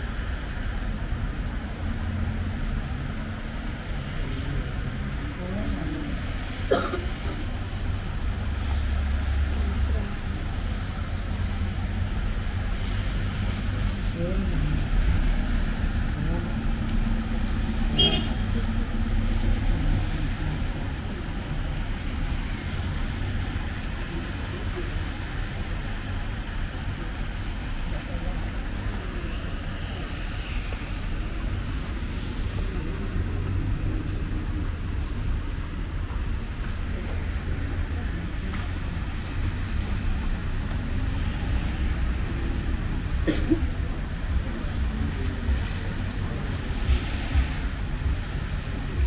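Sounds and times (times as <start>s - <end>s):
low rumble of vehicles: 0.0s - 49.0s.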